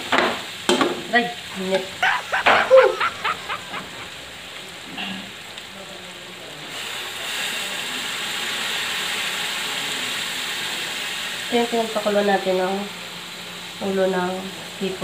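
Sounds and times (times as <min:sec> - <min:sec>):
meat sizzling in a wok: 0:00.0 - 0:15.0.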